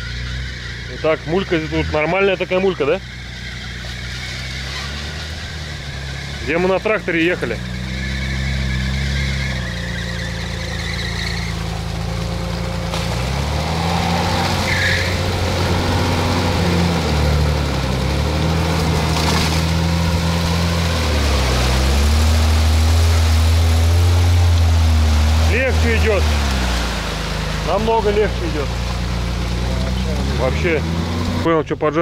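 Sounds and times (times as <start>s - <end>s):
car engine under load: 0.0s - 32.0s.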